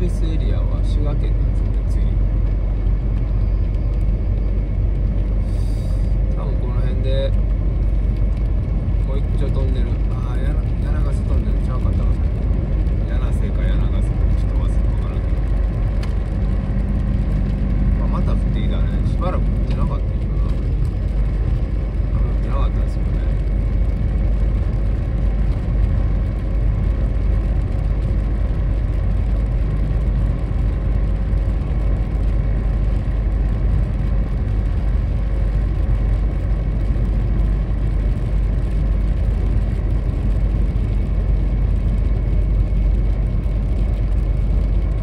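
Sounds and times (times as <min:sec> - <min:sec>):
tyre and engine drone: 0:00.0 - 0:45.0.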